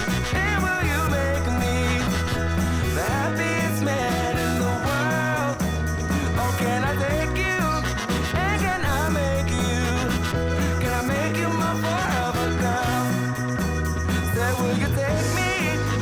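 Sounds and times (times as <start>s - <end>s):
pop song with singing: 0.0s - 16.0s.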